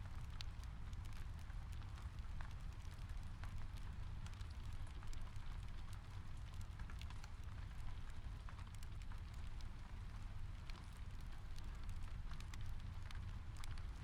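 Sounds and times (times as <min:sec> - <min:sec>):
soft rain: 0:00.0 - 0:14.0.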